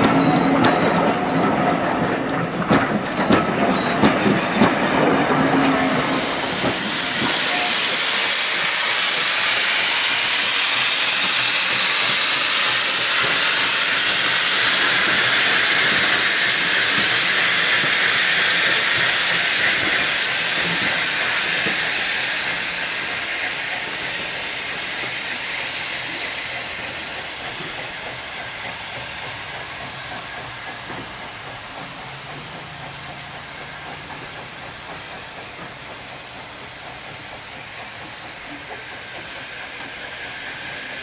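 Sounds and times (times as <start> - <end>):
loud hiss of escaping steam: 0.0 - 2.6, 3.5 - 41.0
train wheels clicking over rail joints: 0.0 - 41.0.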